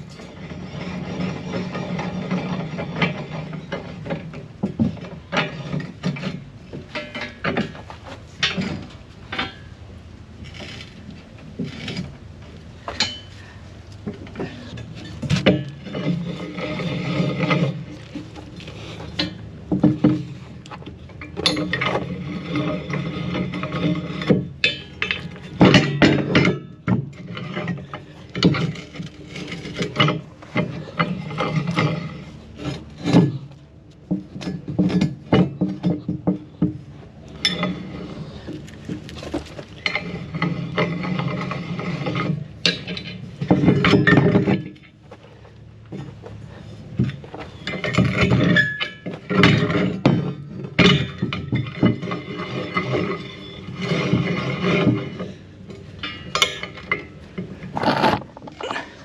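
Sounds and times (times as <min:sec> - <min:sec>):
metal clicks and clanks: 0:00.0 - 0:09.8, 0:14.0 - 0:59.0
metal scraping and rubbing: 0:00.0 - 0:09.8, 0:10.4 - 0:13.4, 0:14.1 - 0:59.0.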